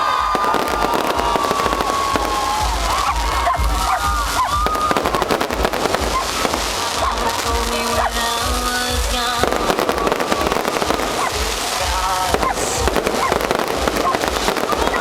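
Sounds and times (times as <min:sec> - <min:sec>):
crowd shouting and cheering: 0:00.0 - 0:15.0
fireworks crackling and thumping: 0:00.0 - 0:15.0.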